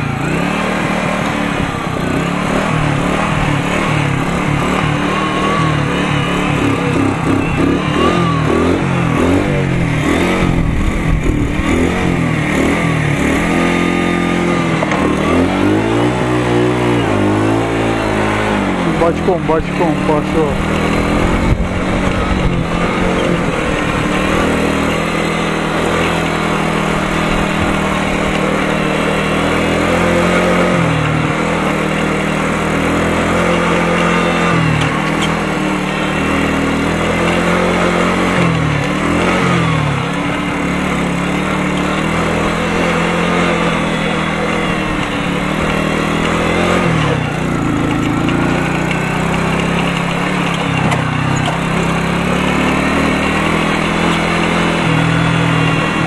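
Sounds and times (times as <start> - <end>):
moped engine running: 0.0 - 56.0.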